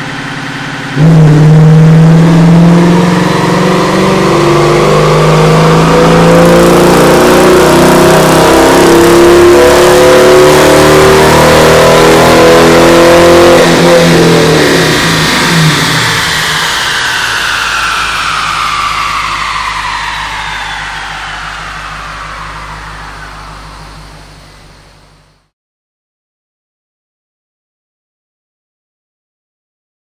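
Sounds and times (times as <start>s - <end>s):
car engine revving under load: 0.0s - 25.5s
falling whine: 0.0s - 25.5s.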